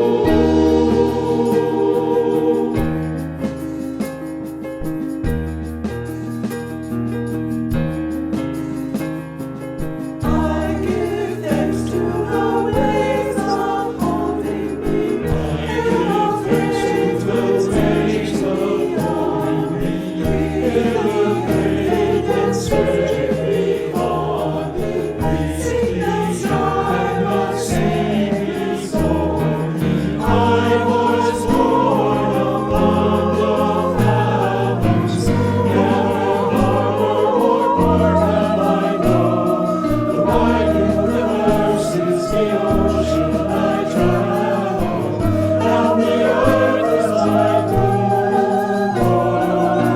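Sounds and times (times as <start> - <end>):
choir singing: 0.0 - 4.1, 10.2 - 49.9
instrumental accompaniment: 0.0 - 49.9.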